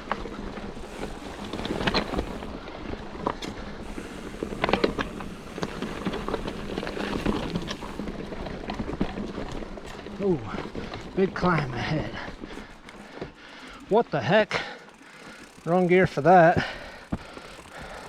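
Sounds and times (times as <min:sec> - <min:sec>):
bike clicks and rattles: 0:00.0 - 0:18.0
bike tyres on dirt and rocks: 0:00.0 - 0:18.0.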